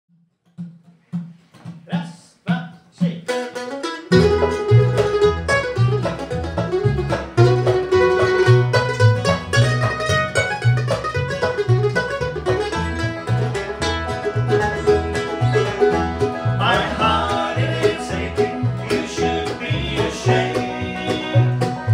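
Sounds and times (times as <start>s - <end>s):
walking bass: 2.5s - 21.9s
bluegrass band playing: 3.2s - 21.9s
single plucked notes: 3.3s - 21.9s.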